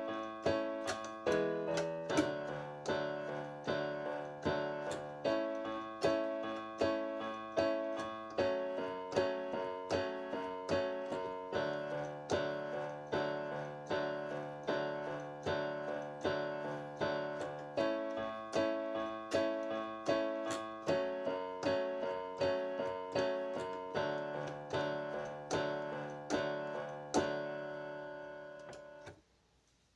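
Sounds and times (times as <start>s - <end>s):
solo piano chords: 0.0s - 29.2s.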